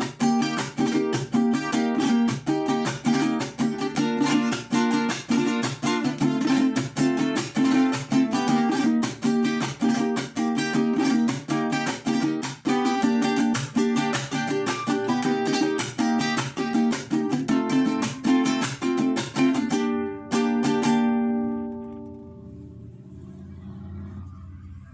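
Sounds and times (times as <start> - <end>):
vihuela strummed fast: 0.0 - 24.9.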